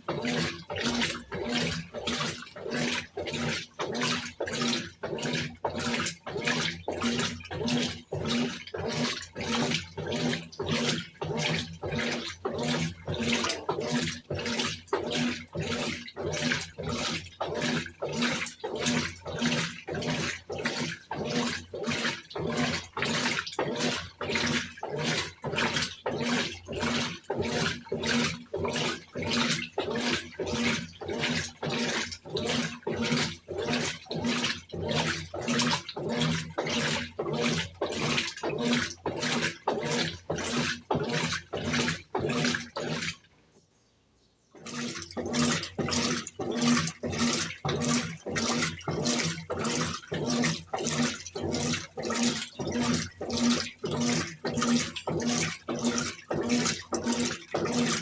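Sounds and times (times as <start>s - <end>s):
motor hum: 0.0s - 43.3s, 44.5s - 58.0s
washing machine drum swishing water: 0.0s - 43.6s, 44.4s - 58.0s.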